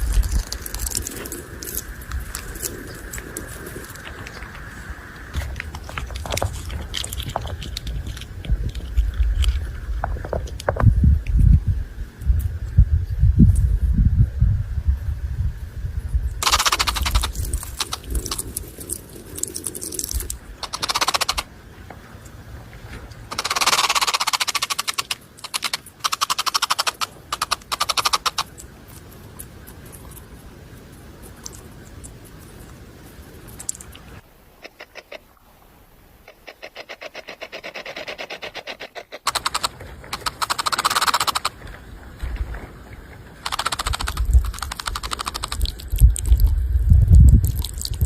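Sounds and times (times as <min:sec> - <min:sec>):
rattlesnake rattling: 0:00.0 - 0:10.8, 0:16.1 - 0:21.6, 0:23.2 - 0:35.2, 0:36.2 - 0:48.0.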